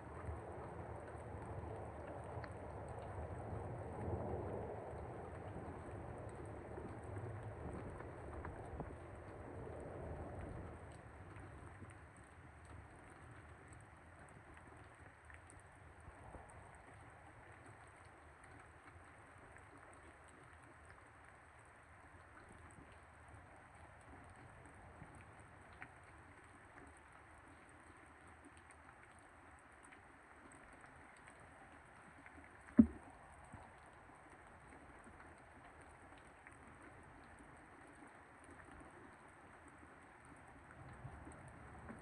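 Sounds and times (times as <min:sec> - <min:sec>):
faint steady rain: 0:00.0 - 0:42.0.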